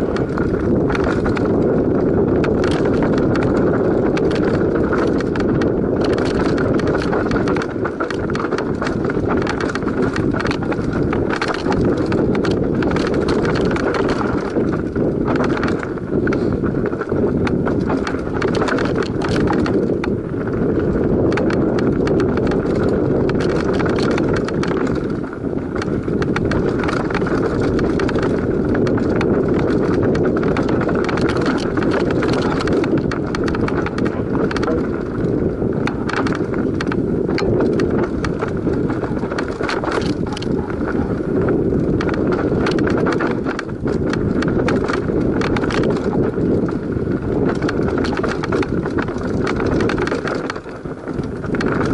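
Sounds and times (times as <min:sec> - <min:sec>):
bike rattling and knocking: 0:00.0 - 0:51.9
tyres rumbling over dirt and rock: 0:00.0 - 0:51.9.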